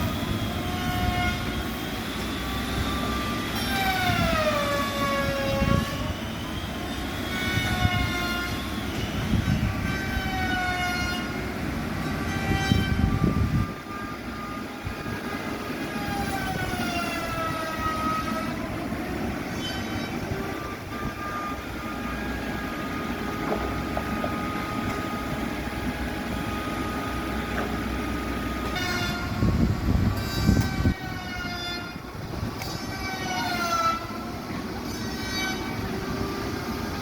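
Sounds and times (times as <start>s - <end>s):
sawmill machinery whine: 0.0s - 37.0s.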